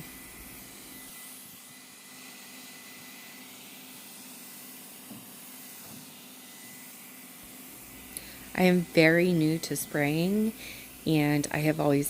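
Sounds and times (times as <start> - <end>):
motor high whine: 0.0 - 12.0
paint sprayer hissing: 0.0 - 12.0.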